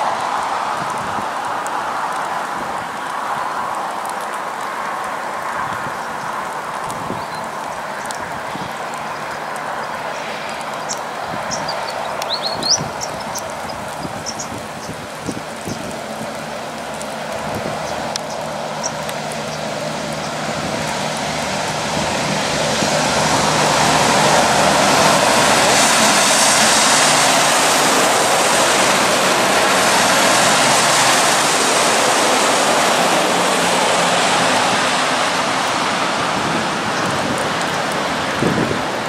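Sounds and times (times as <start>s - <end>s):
tyres hissing on wet road: 0.0s - 39.0s.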